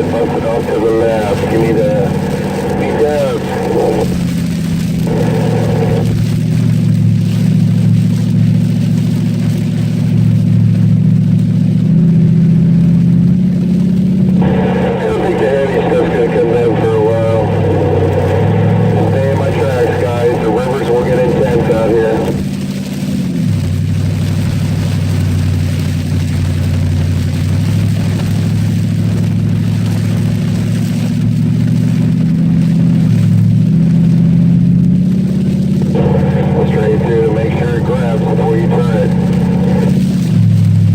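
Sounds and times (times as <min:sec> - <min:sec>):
car engine running hard: 0:00.0 - 0:40.9.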